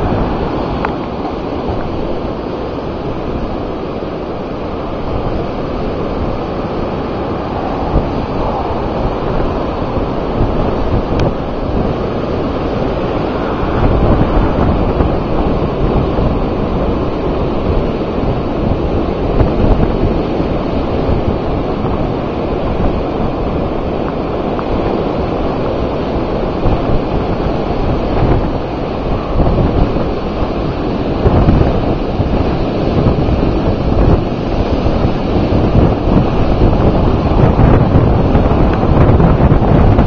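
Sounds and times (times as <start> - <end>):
rough sea surf: 0.0 - 40.0
storm wind on microphone: 0.0 - 40.0.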